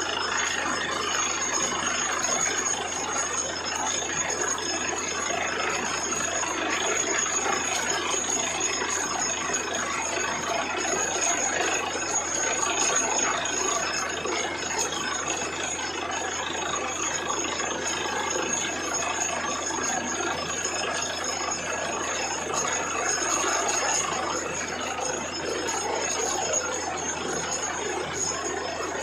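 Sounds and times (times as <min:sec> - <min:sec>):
drilling rig mechanical noise: 0:00.0 - 0:29.0.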